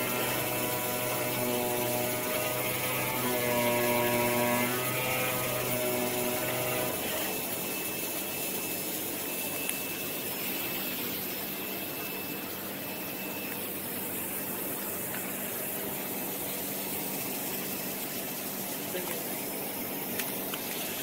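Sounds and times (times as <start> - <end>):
motor whine: 0.0 - 18.2
machine hissing hum: 0.0 - 21.0.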